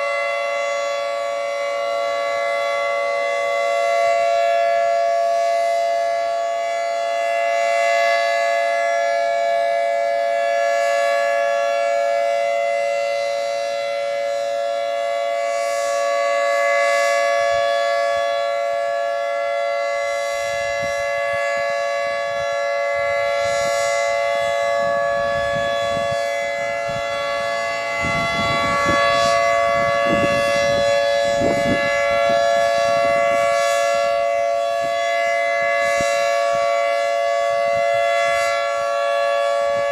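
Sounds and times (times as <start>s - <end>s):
dual-tone siren: 0.0s - 39.9s.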